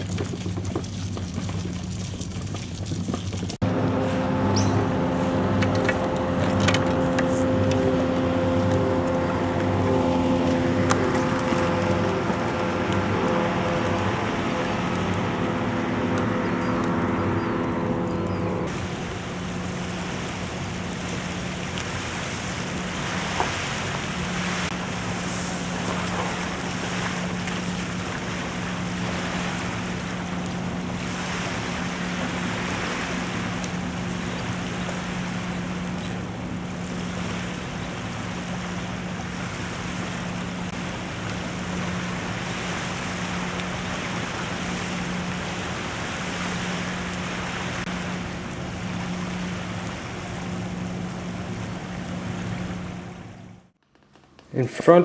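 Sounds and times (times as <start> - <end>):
small waves lapping: 0.0 - 55.0
steady low hum: 3.5 - 53.8.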